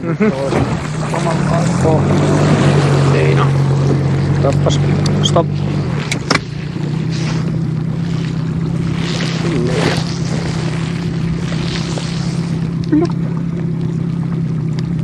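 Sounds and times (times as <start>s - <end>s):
boat motor humming: 0.0s - 15.0s
water noise: 0.0s - 15.0s
wind: 0.0s - 15.0s.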